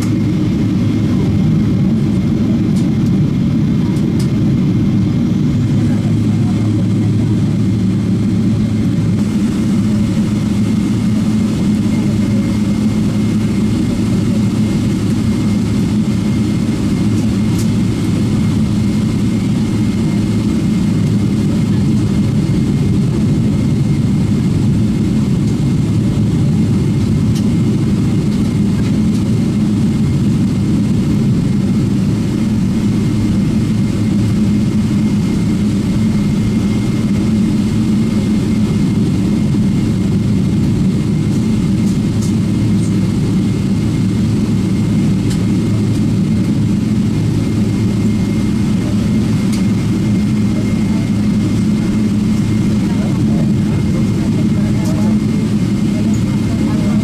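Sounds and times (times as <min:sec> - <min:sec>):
jet engines rumbling from cabin: 0:00.0 - 0:57.0.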